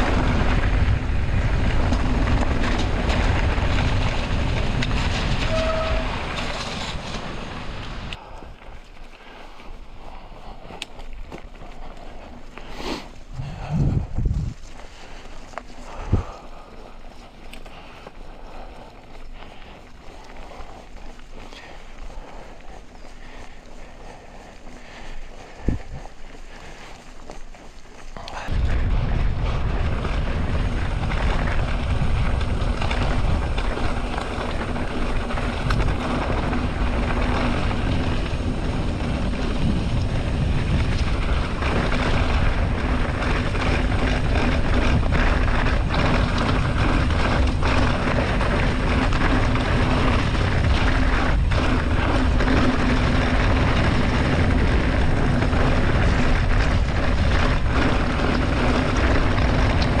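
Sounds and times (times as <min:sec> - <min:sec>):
wind rushing on microphone: 0:00.0 - 0:08.6, 0:13.3 - 0:16.7, 0:21.5 - 0:26.6, 0:28.1 - 1:00.0
tyres rumbling on dirt track: 0:00.0 - 0:08.7, 0:09.9 - 1:00.0.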